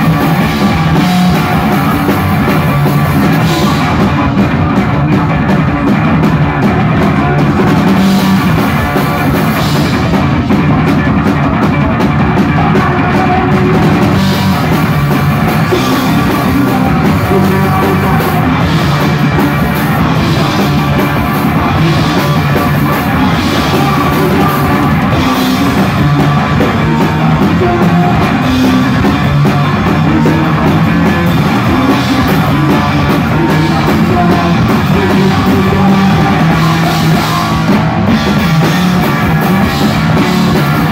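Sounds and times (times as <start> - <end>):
electric bass guitar: 0.0 - 40.9
live rock band: 0.0 - 40.9.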